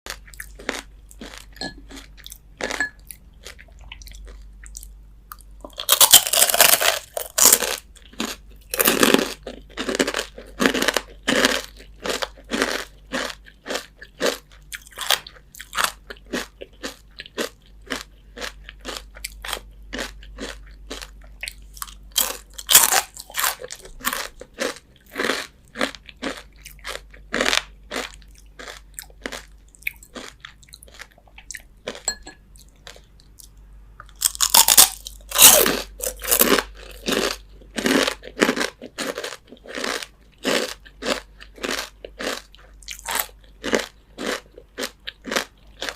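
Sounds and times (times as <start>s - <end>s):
crunchy chewing: 0.1s - 45.9s.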